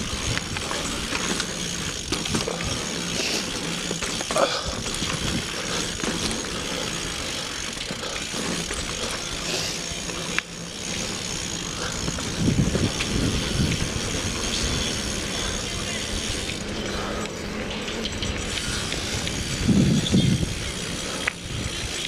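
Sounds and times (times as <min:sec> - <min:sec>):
bike rolling and rattling on dirt: 0:00.0 - 0:22.0
sharp bike click: 0:00.0 - 0:22.0.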